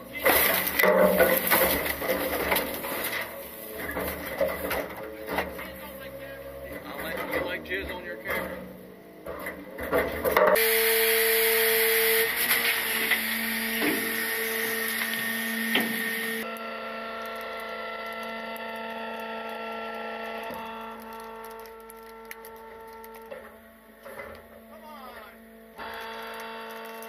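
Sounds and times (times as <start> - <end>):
garbage truck hydraulic packer whine: 0.0 - 27.0.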